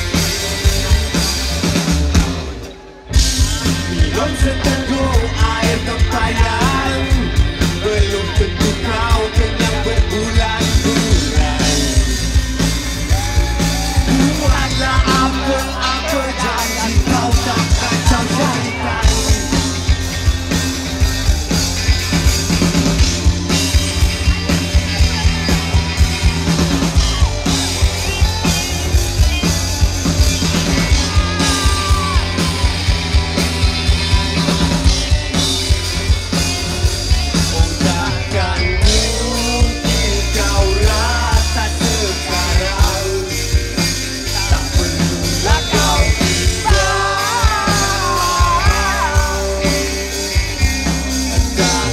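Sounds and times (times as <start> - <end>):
live rock band playing: 0.0 - 51.9
person singing lead vocals: 2.7 - 20.6, 23.4 - 35.5, 37.1 - 51.9.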